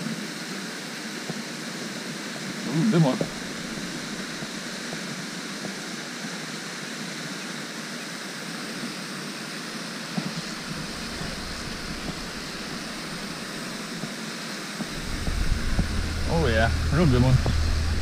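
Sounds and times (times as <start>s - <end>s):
fountain water rushing hiss: 0.0s - 18.0s.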